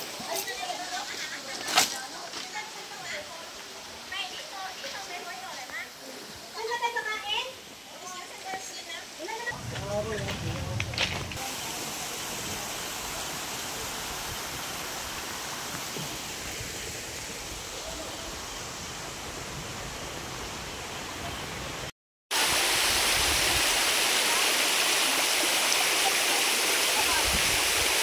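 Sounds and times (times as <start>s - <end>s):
waterfall and creek rushing over rock: 0.0s - 28.0s.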